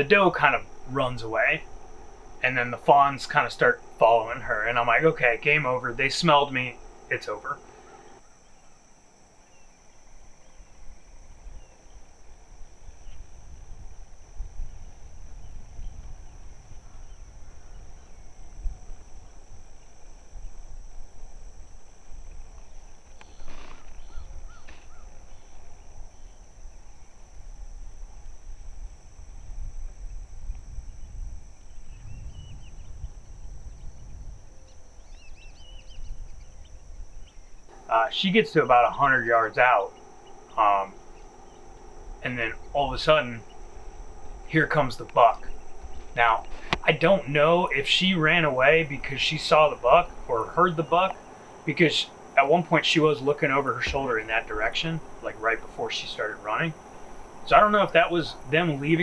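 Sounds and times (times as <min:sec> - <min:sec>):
bird calls: 0:00.0 - 0:13.4, 0:14.6 - 0:20.7, 0:22.2 - 0:27.3, 0:31.0 - 0:59.0
faint chirps: 0:00.0 - 0:59.0
high insect drone: 0:00.0 - 0:59.0
low microphone rumble: 0:10.9 - 0:59.0.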